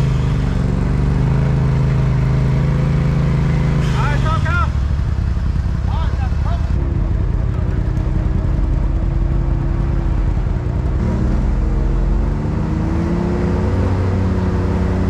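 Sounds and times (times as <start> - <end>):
engine throttling up: 0.0 - 15.0
engines running at low speed: 0.0 - 15.0.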